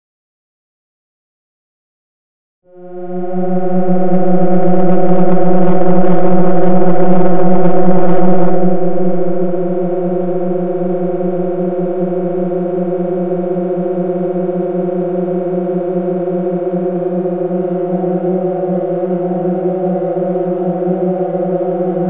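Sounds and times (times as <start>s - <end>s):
shimmering synthesizer drone: 2.7s - 22.0s.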